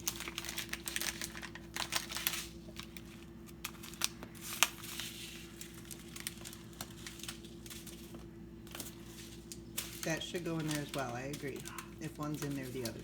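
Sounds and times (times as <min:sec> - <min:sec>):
faint steady hum: 0:00.0 - 0:13.0
plastic packaging crinkling: 0:00.0 - 0:13.0.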